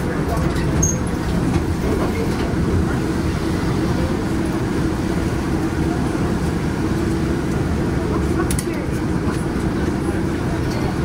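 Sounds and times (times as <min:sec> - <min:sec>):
streetcar wheels rumbling: 0:00.0 - 0:11.0.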